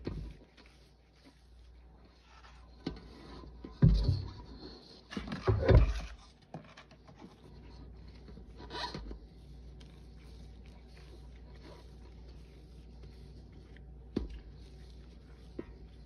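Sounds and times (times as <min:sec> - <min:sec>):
paste squishing and scraping on metal: 0:00.0 - 0:04.4, 0:05.0 - 0:16.0.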